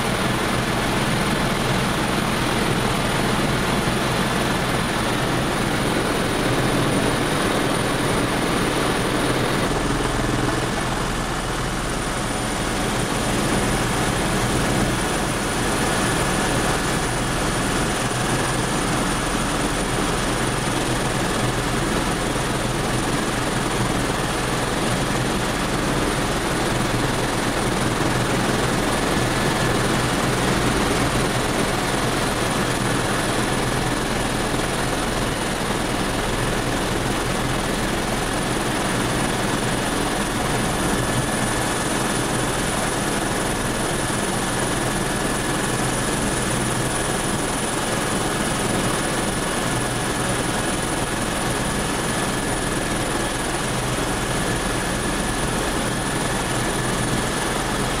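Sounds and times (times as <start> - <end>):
helicopter rotor and engine noise: 0.0 - 58.0.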